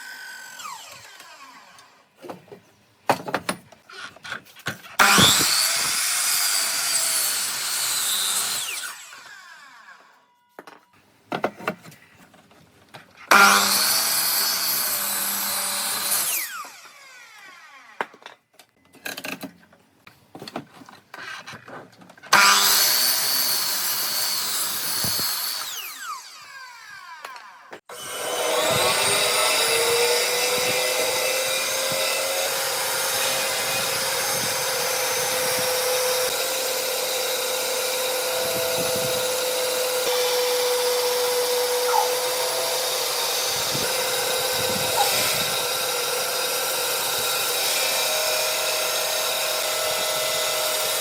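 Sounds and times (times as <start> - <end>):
electric power tool whining: 0.0 - 2.0, 5.0 - 10.3, 13.3 - 18.2, 22.3 - 51.0.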